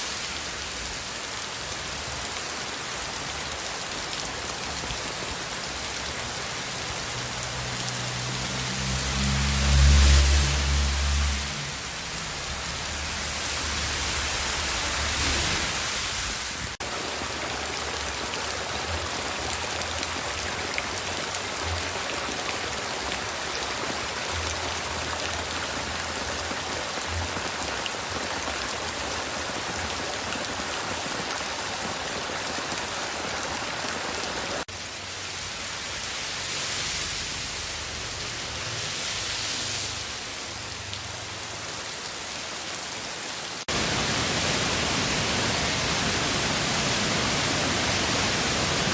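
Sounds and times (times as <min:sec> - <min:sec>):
rain falling steadily: 0:00.0 - 0:48.9.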